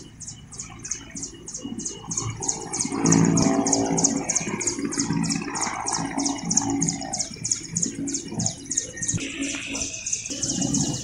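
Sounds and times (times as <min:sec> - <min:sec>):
helicopter rotor blades pulsing: 0:00.0 - 0:11.0
helicopter turbine noise: 0:00.0 - 0:11.0.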